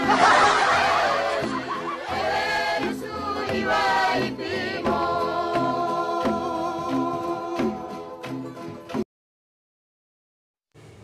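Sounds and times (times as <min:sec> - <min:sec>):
music with singing voices: 0:00.0 - 0:09.0.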